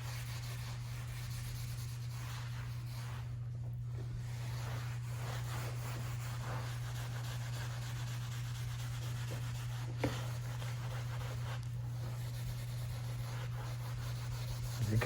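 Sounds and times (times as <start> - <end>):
rag rubbing on flooring: 0.0 - 15.0
steady low hum: 0.0 - 15.0.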